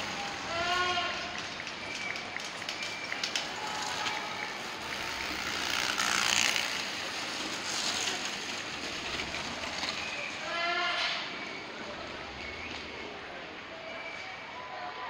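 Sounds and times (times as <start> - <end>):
tyres rumbling over cobblestones: 0.0 - 14.5
street noise: 0.0 - 15.0.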